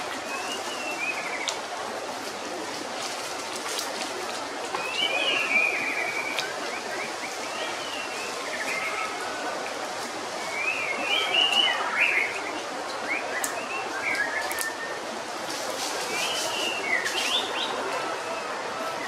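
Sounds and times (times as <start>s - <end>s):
forest ambience hiss: 0.0s - 19.0s.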